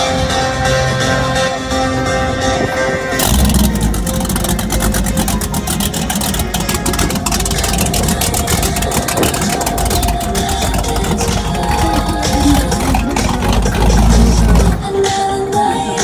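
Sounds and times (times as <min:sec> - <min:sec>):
music: 0:00.0 - 0:16.0
powerboat engines idling: 0:00.0 - 0:16.0.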